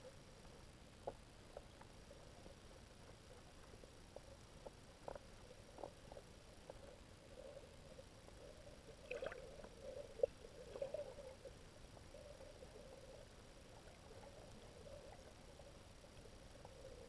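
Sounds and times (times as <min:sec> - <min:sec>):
underwater low hum: 0:00.0 - 0:17.0.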